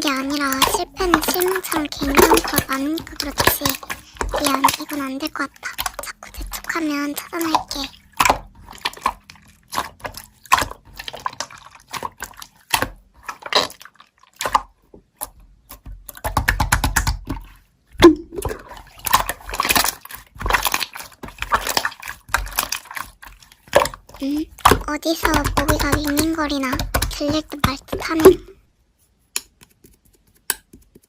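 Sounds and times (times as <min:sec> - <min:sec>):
slime squelching and clicking: 0:00.0 - 0:28.6, 0:29.3 - 0:31.0.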